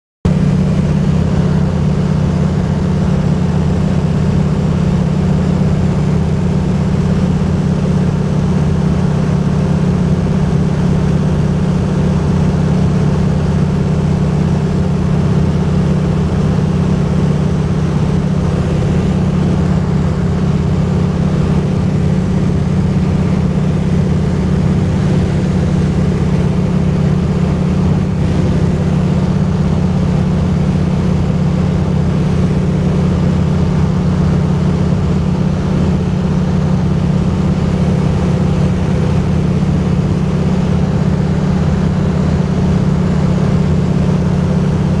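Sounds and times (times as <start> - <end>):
light aircraft engine drone: 0.3 - 45.0.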